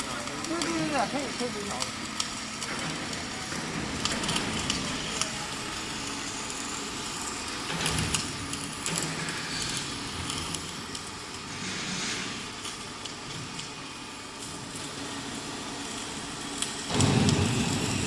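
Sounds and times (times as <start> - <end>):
welding arc crackling and popping: 0.0 - 18.0.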